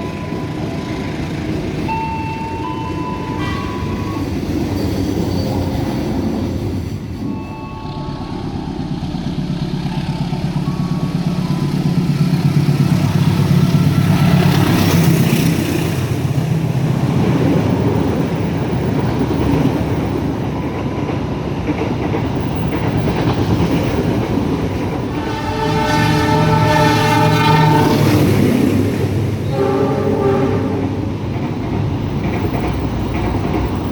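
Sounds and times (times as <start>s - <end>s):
train passing on rails: 0.0s - 33.9s.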